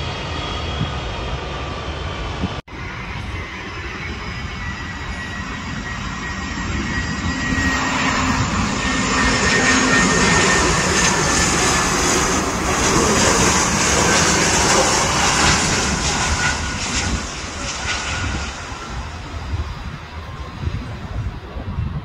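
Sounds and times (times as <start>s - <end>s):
jet engines passing low: 0.0s - 22.0s.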